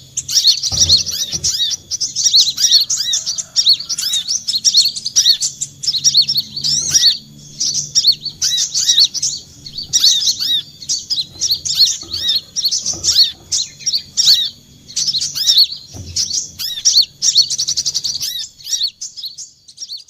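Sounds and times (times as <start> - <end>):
bird rapid trill: 0.0 - 20.0
faint low hum: 0.0 - 20.0
sunbird chirping song: 0.0 - 20.0.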